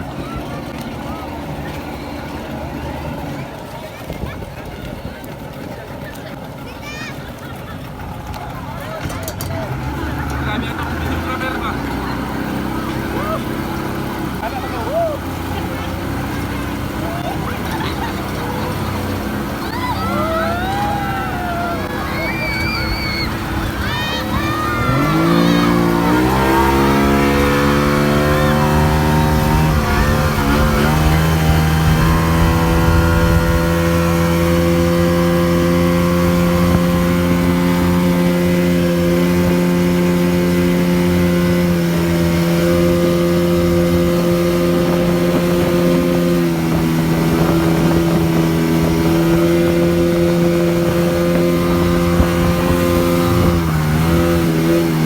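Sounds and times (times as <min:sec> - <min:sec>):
motorboat engine: 0:00.0 - 0:55.0.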